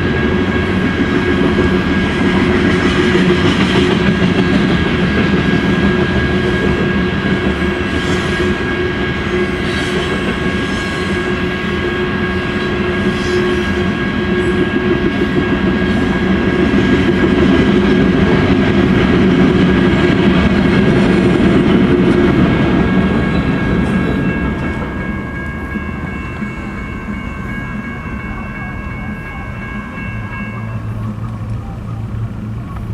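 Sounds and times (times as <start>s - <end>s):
steady high ringing tones: 0.0s - 19.0s, 19.6s - 32.9s
freight train rumbling and clacking: 0.0s - 32.9s.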